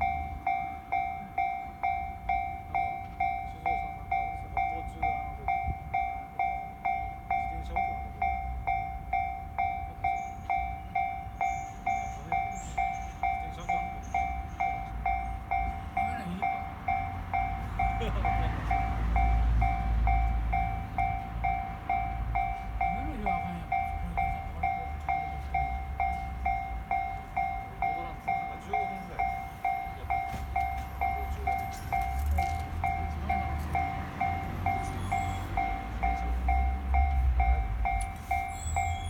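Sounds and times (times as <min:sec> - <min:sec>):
level-crossing warning bell: 0:00.0 - 0:39.0
train rumbling past: 0:00.0 - 0:39.0.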